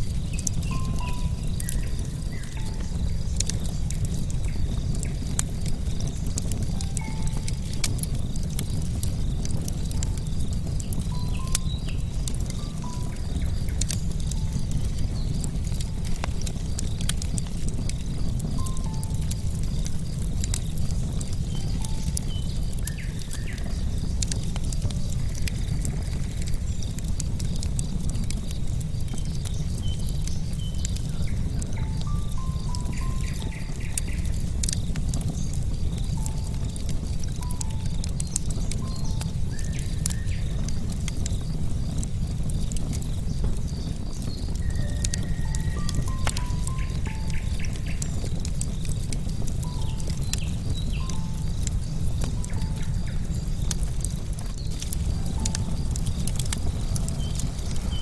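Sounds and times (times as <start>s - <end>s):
bonfire crackling and popping: 0.0s - 58.0s
low steady rumble: 0.0s - 58.0s.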